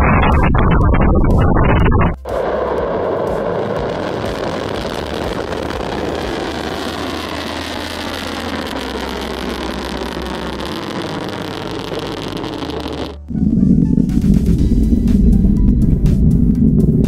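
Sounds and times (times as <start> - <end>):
rocket engine exhaust roaring: 0.0 - 17.0.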